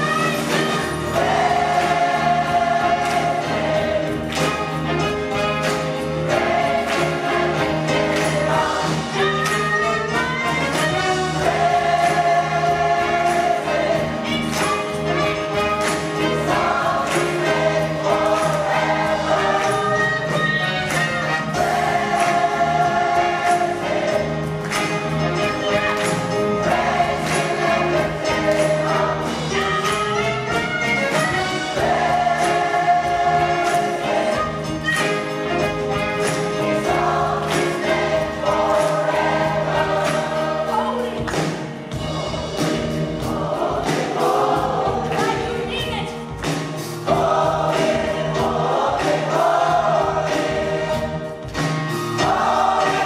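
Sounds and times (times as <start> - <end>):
bass guitar: 0.0 - 53.0
drums keeping a steady beat: 0.0 - 53.0
gospel choir singing: 0.0 - 53.0
keyboards: 0.0 - 53.0.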